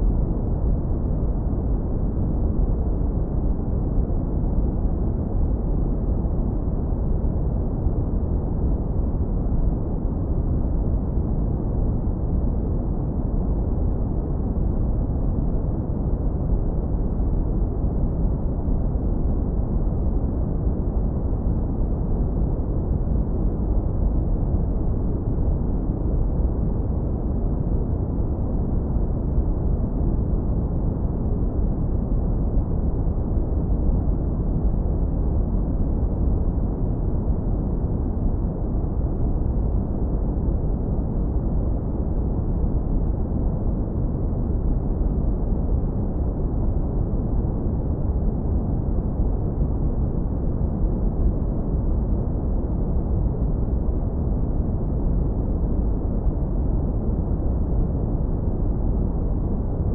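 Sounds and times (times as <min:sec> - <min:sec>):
deep brown noise rumble: 0:00.0 - 0:59.9.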